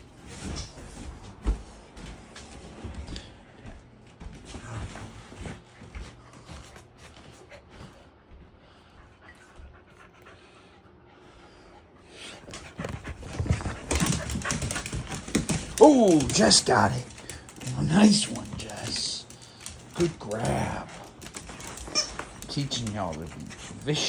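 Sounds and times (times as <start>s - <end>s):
dogs scuffling: 0.0s - 8.4s, 12.3s - 24.0s
dogs panting: 4.4s - 24.0s.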